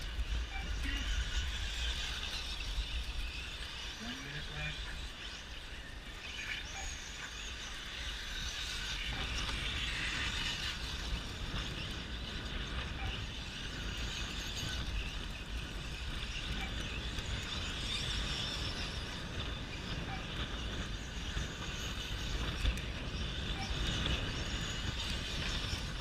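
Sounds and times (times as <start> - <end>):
rc trucks motors whirring: 0.0 - 26.0.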